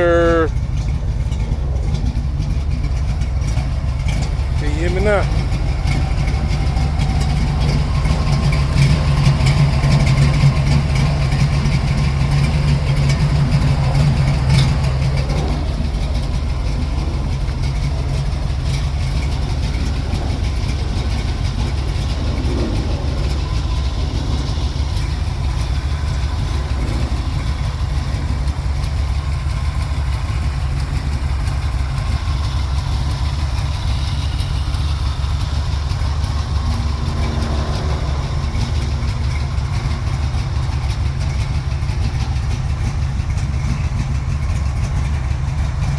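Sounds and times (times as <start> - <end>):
engine idling exhaust rumble: 0.0 - 45.9.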